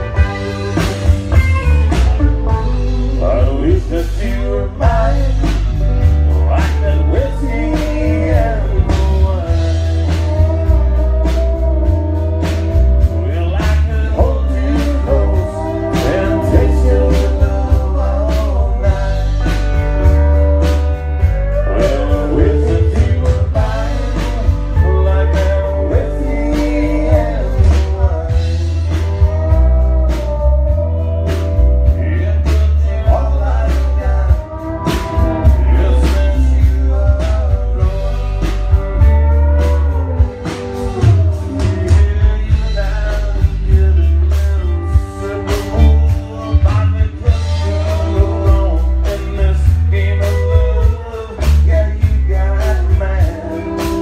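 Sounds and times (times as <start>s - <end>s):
bass line: 0.0s - 54.0s
live country band playing: 0.0s - 54.0s
man singing: 0.0s - 54.0s.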